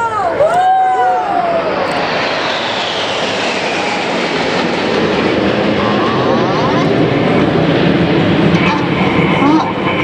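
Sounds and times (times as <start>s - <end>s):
jets flying past: 0.0s - 10.0s.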